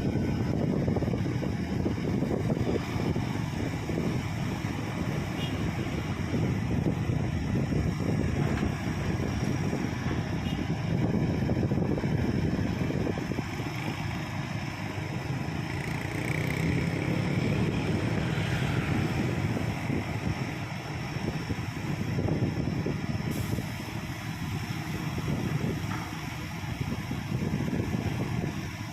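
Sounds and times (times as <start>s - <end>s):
heavy engine running: 0.0s - 28.9s.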